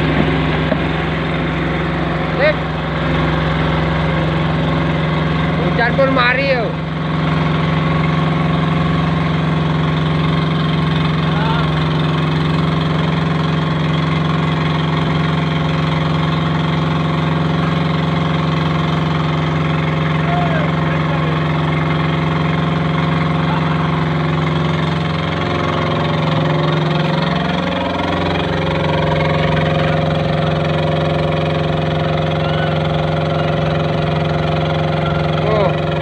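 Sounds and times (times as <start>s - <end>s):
machine engine running: 0.0s - 36.0s.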